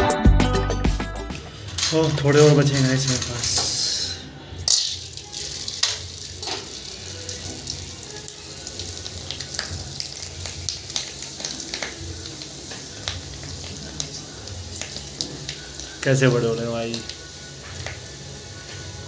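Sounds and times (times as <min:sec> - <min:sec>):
food sizzling in hot oil: 0:01.3 - 0:19.0.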